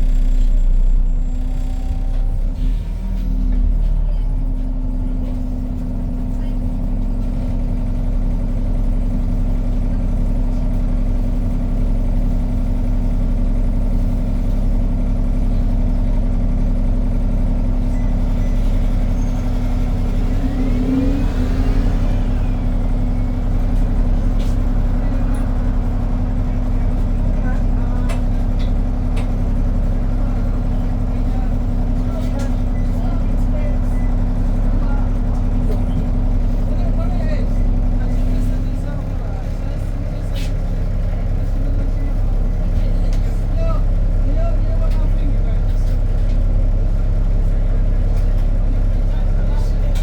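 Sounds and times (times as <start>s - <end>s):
bus diesel engine rumbling: 0.0s - 50.0s.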